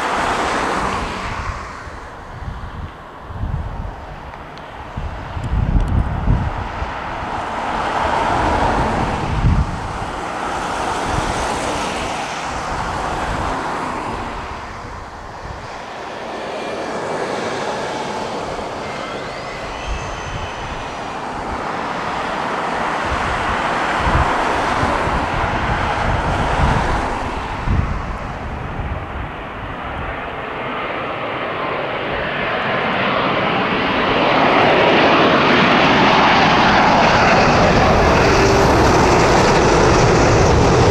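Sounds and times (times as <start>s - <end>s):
airliner jet engines passing: 0.0s - 40.9s.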